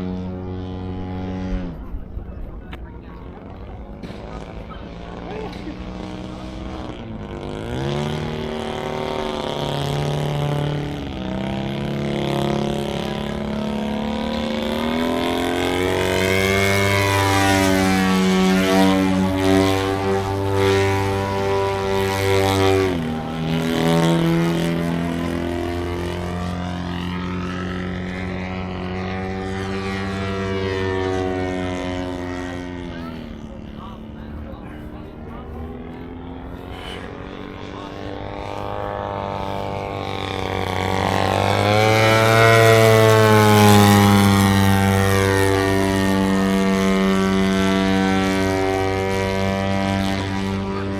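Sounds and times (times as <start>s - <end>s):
model airplane engine and propeller: 0.0s - 50.9s.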